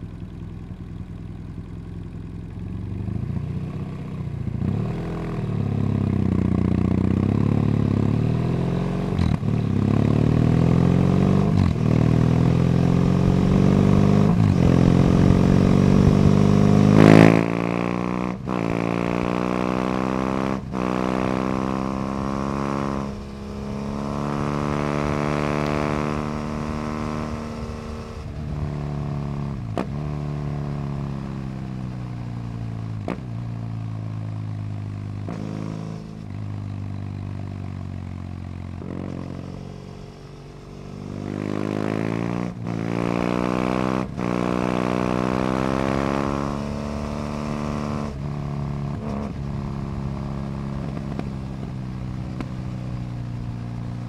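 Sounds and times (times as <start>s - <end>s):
motorcycle engine revving: 2.4s - 54.0s.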